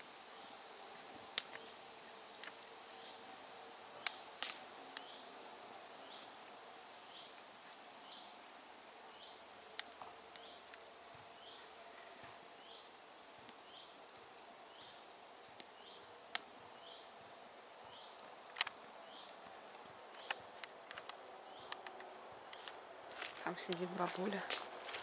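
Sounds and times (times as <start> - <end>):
wood fire crackling and popping: 0.0 - 8.3, 9.1 - 25.0.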